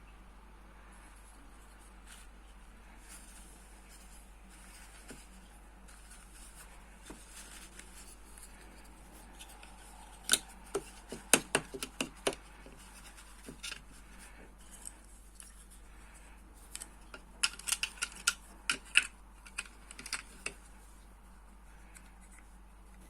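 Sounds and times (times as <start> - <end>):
faint rustling: 0.7 - 23.0.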